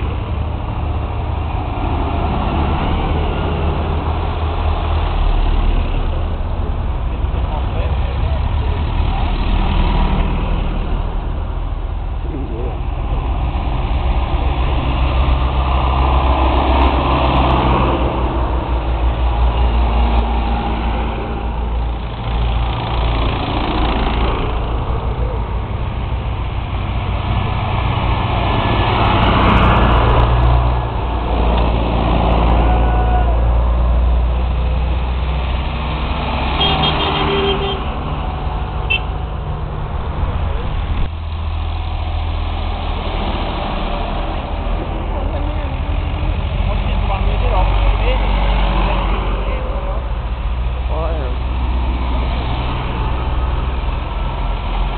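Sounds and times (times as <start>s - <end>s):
tractor engines passing: 0.0s - 54.9s.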